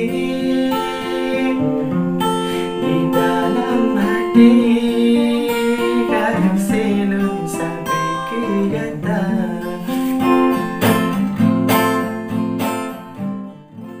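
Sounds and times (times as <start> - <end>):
acoustic guitar strummed and picked: 0.0 - 14.0.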